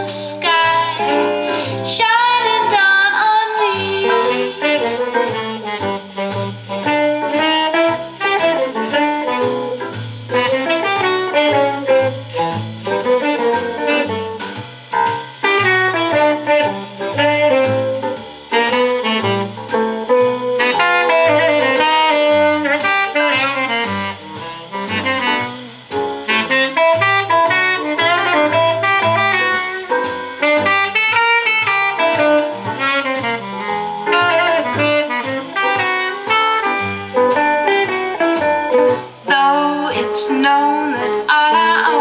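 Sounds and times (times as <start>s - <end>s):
steady bass line: 0.0s - 39.3s
jazz horn melody: 0.0s - 42.0s.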